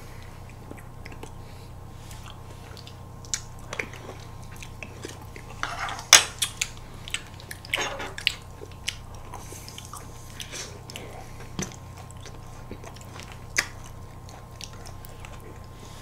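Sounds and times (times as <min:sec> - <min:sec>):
chewing crunchy ice cream: 0:00.1 - 0:16.0.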